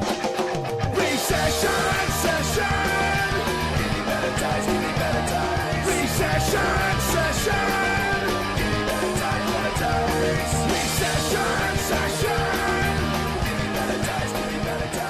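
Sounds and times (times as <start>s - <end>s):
punk rock song with vocals: 0.0s - 15.0s.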